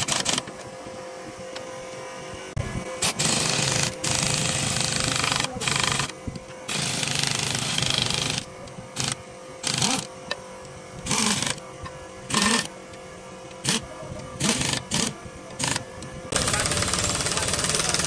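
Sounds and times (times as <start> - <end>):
power tool running in bursts: 0.0 - 18.0.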